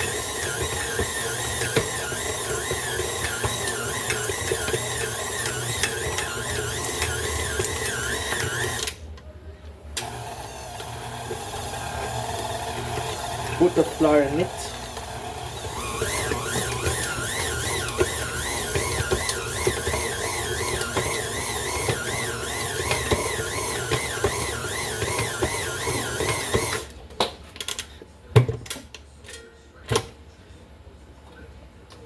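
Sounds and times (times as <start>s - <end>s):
kitchen mixer motor whining: 0.0s - 9.0s, 10.0s - 26.9s.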